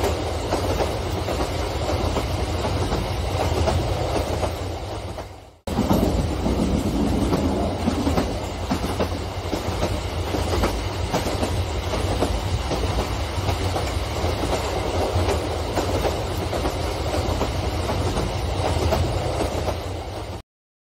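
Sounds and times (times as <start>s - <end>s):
train wheels clattering on rails: 0.0s - 20.4s.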